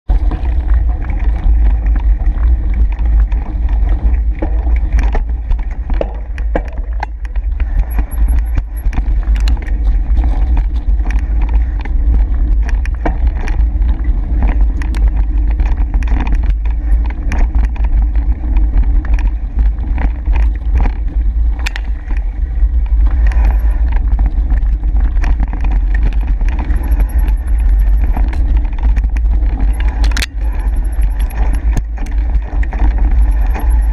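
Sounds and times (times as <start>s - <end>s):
wind and trail rumble: 0.0s - 33.9s
bike clicks and rattles: 0.1s - 33.9s.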